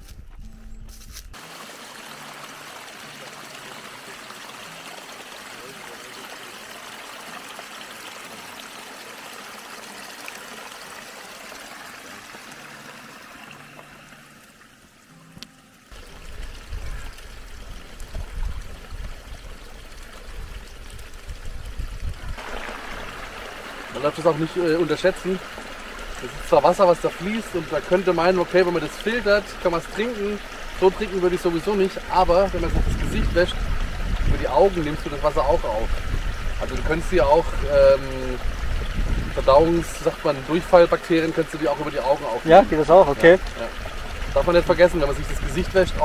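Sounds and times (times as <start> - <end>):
water trickling through grass: 0.0 - 46.0.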